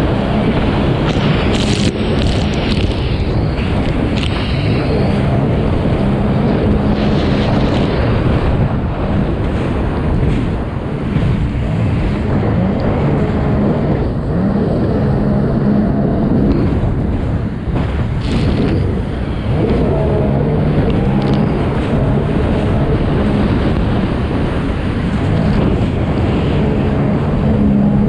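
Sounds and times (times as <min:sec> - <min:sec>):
watercraft engine revving: 0:00.0 - 0:28.0
wind and water noise: 0:00.0 - 0:28.0.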